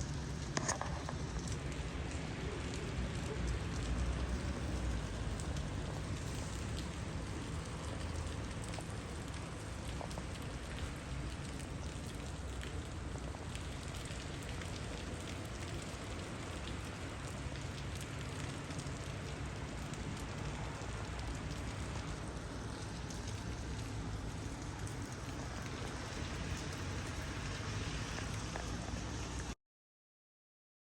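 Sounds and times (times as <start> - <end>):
heavy rain falling: 0.0 - 29.6.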